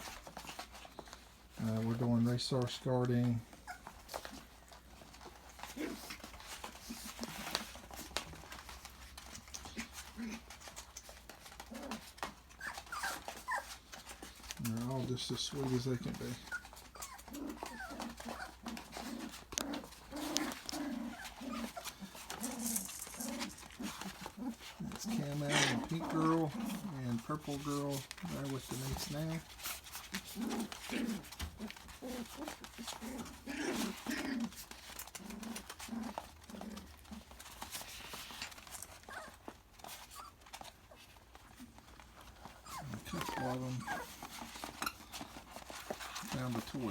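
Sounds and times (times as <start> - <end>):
puppies yipping and whining: 3.5 - 14.6, 15.5 - 46.9.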